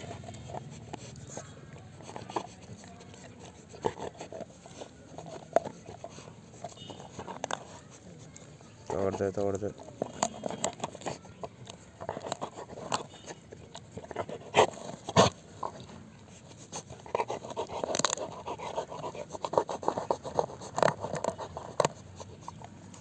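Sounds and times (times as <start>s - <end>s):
teeth clicking on shell: 0.0s - 15.9s, 16.9s - 23.0s
dog gnawing hard shell: 0.0s - 23.0s.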